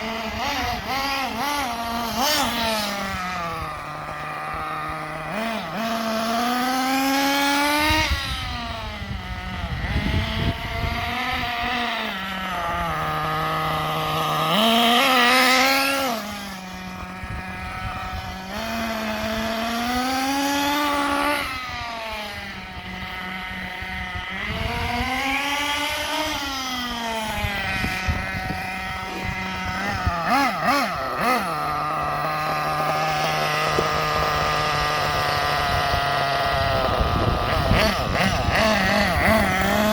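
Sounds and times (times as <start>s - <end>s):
nitro engine revving: 0.0s - 39.9s.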